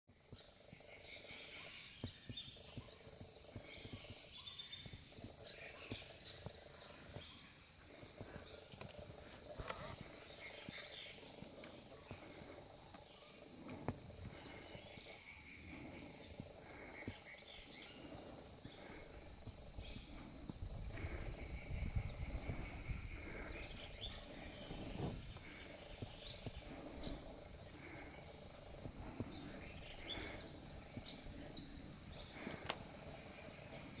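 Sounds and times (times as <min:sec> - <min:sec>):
high-pitched insect chorus: 0:00.1 - 0:34.0.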